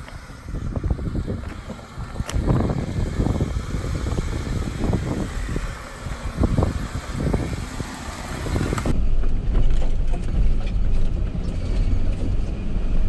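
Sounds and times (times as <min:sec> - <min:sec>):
low engine rumble: 0:00.0 - 0:13.0
vehicle crawling over rocky track: 0:00.0 - 0:13.0.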